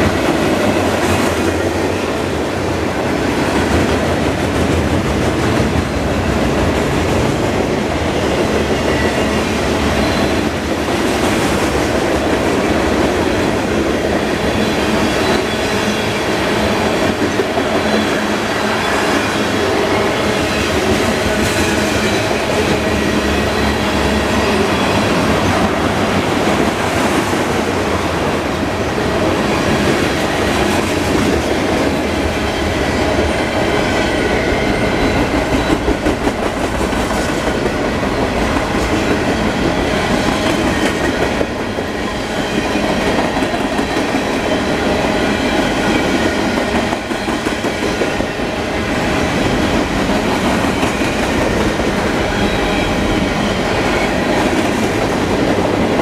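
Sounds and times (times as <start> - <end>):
freight train wheels clacking: 0.0 - 56.0.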